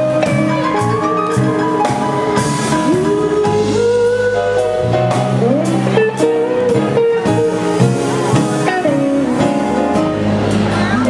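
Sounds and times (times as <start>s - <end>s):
drums keeping steady beat: 0.0s - 11.0s
electric guitar lead with bent notes: 0.0s - 11.0s
jazz band playing: 0.0s - 11.0s.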